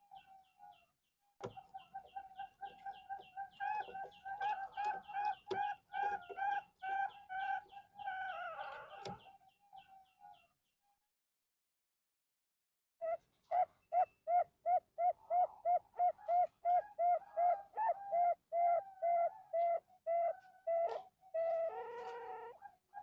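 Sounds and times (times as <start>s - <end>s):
dove cooing song: 1.4s - 10.4s, 13.0s - 23.0s.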